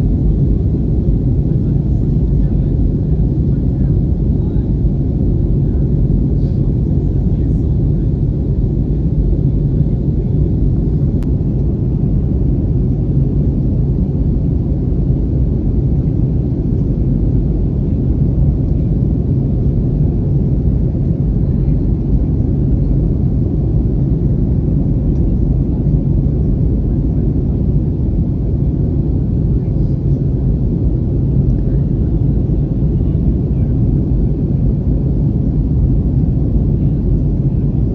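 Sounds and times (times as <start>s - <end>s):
airliner cabin engine rumble: 0.0s - 37.9s
faint constant hum: 0.0s - 37.9s.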